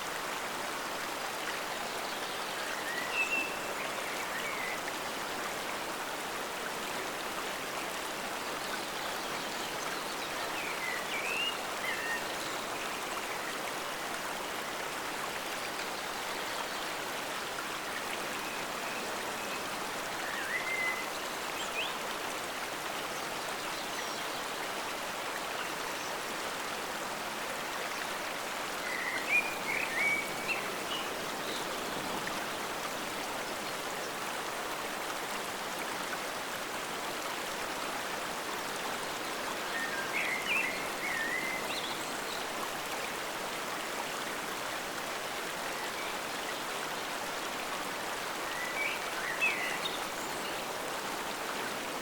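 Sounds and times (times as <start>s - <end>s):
forest stream flowing: 0.0s - 52.0s.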